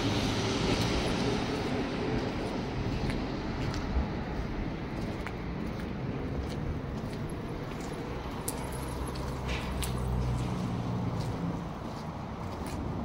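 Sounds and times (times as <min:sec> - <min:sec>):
street ambience: 0:00.0 - 0:13.0
vehicle engine hum: 0:00.0 - 0:13.0.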